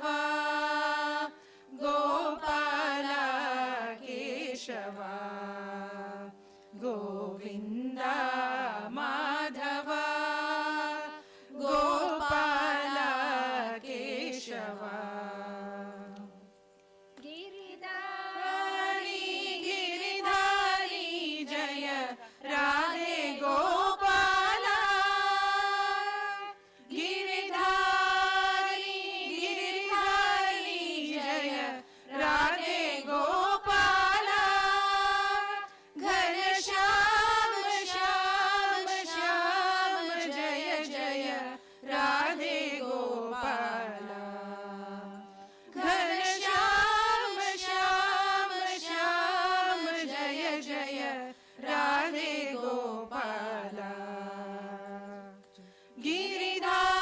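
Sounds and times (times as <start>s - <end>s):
women singing together: 0.0s - 16.4s, 17.2s - 55.4s, 56.0s - 57.0s.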